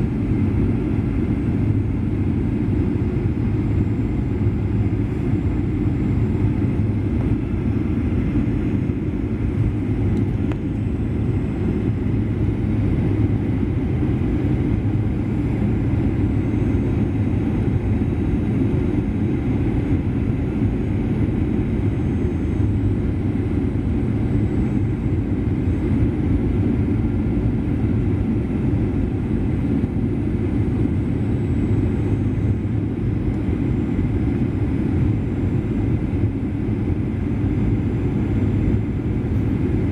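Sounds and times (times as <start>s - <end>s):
jet engine low rumble: 0.0s - 39.9s.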